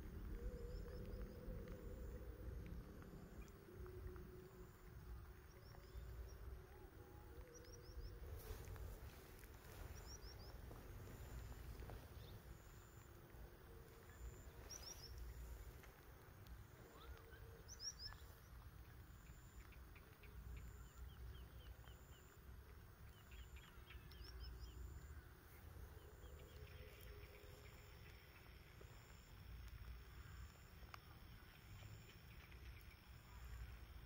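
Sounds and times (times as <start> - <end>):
faint low rumble: 0.0 - 34.0
small birds chirping: 0.1 - 34.0.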